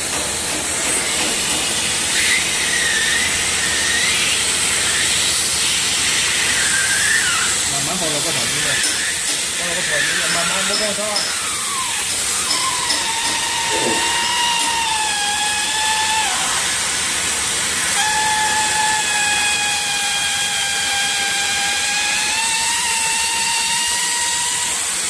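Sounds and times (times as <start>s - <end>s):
hot air hissing: 0.0s - 25.0s
motor whine: 2.0s - 25.0s.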